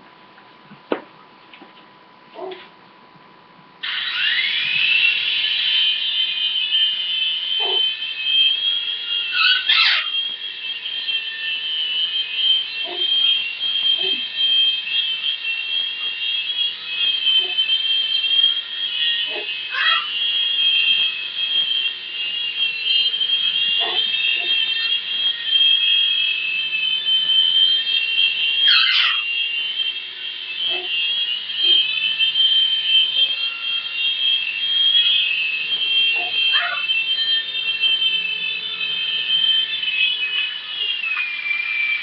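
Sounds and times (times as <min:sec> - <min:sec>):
toy helicopter rotors whining: 0:03.8 - 0:42.0.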